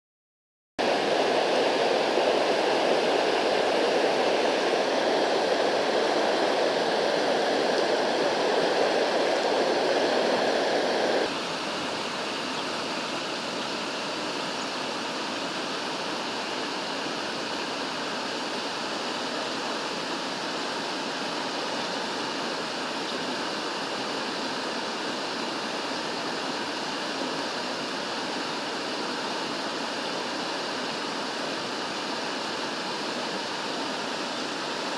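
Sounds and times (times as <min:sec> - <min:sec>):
rush of flowing water: 0:00.8 - 0:34.9.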